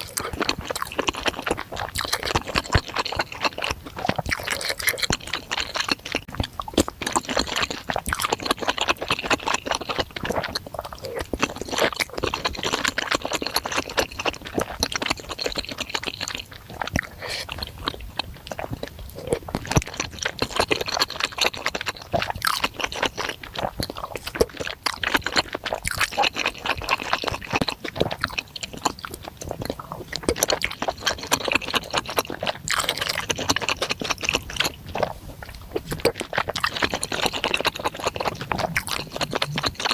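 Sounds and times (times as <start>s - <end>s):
wet chewing with mouth clicks: 0.0s - 39.9s.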